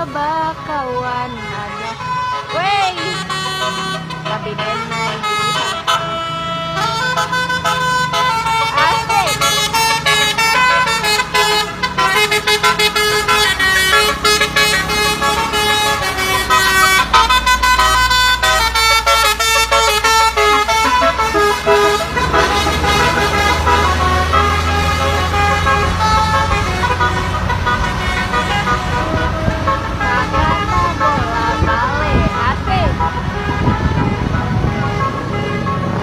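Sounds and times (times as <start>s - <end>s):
bus engine running: 0.0s - 36.0s
musical bus horn melody: 0.0s - 36.0s.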